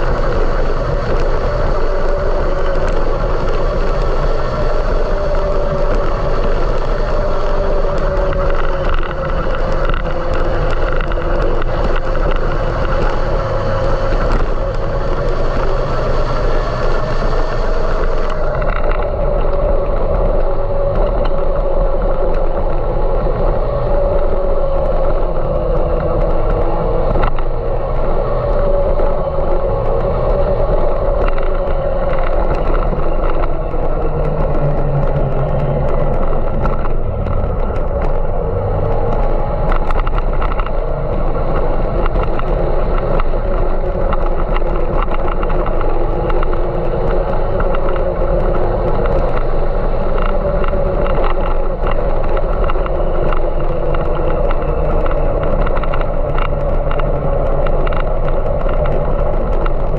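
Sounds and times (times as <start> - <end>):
vehicle engine drone: 0.0 - 59.9.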